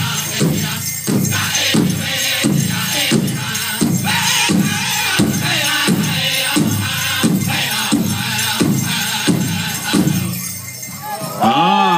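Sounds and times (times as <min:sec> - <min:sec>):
big drum beat: 0:00.0 - 0:10.4
drum group singing: 0:00.0 - 0:10.6
bells jingling: 0:00.0 - 0:11.9.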